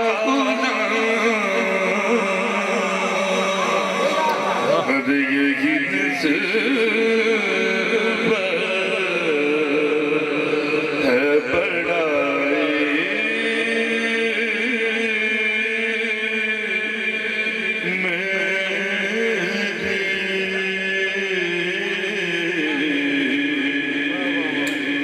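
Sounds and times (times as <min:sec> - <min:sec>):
man chanting into a microphone: 0:00.0 - 0:25.0.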